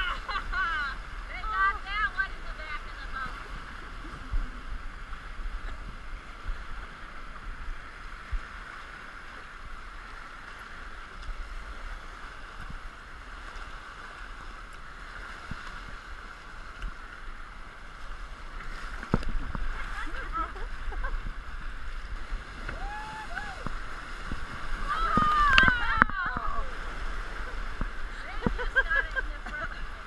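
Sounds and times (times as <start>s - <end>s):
whitewater rushing: 0.0s - 30.0s.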